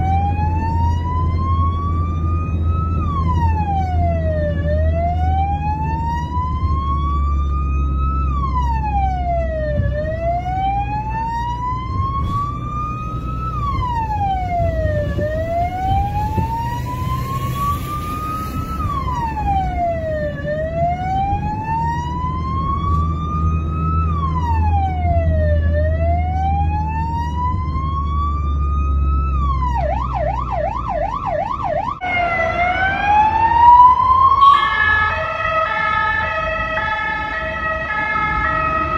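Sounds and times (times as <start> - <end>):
ambulance siren wailing: 0.0 - 38.9
low engine rumble: 0.0 - 38.9
siren fast yelp: 0.0 - 38.9.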